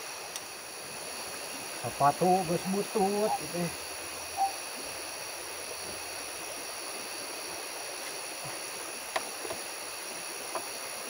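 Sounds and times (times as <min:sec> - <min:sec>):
frogs chorus: 0:00.0 - 0:11.0.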